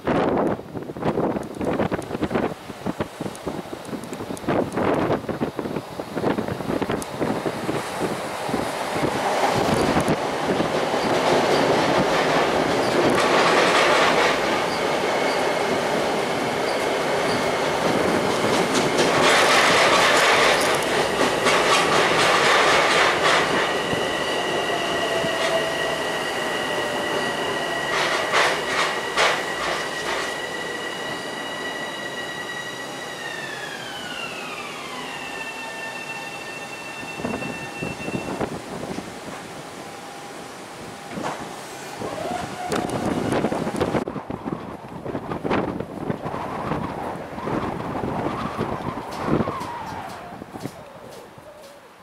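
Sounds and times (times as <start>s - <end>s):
train wheels rumbling and clicking: 0.0s - 36.2s, 41.0s - 51.8s
high train whine: 0.0s - 52.0s.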